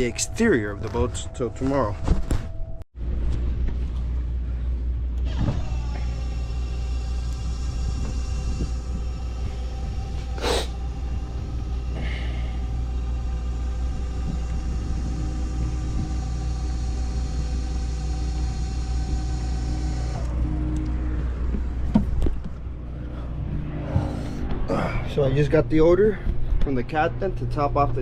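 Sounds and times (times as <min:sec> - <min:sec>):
low mechanical rumble: 0:00.0 - 0:28.0
machine hum: 0:00.0 - 0:28.0.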